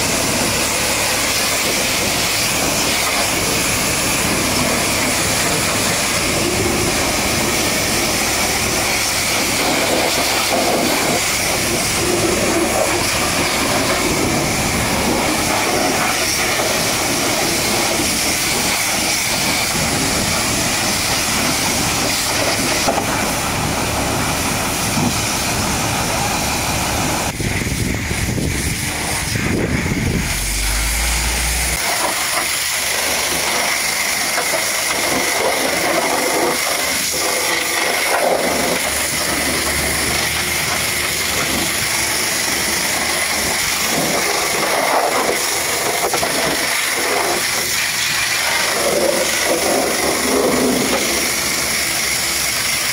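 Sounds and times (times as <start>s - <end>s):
pressure washer spraying tires: 0.0s - 52.9s.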